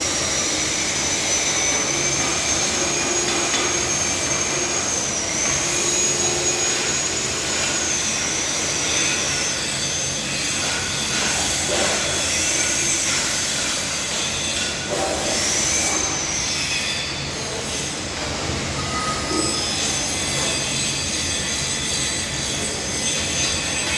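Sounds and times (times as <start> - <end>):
high-pitched squeal: 0.0 - 23.9
loud mechanical noise: 0.0 - 23.9.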